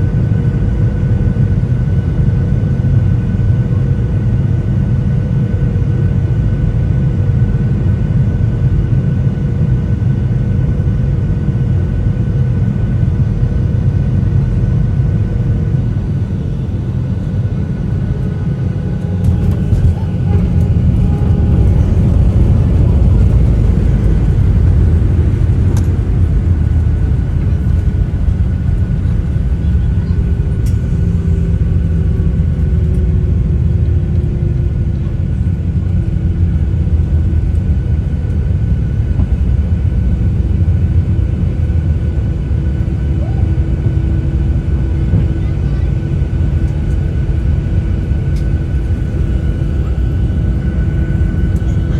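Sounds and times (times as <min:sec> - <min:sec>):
airplane engines rumbling: 0:00.0 - 0:51.9
engine whine: 0:00.0 - 0:51.9.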